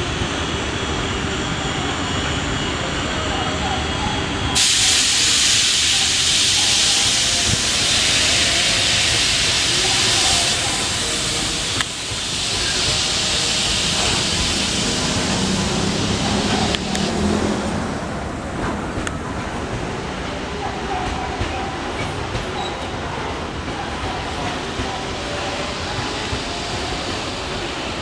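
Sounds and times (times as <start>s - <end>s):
rumble of train wagons: 0.0s - 28.0s
train passing with hiss: 0.0s - 28.0s.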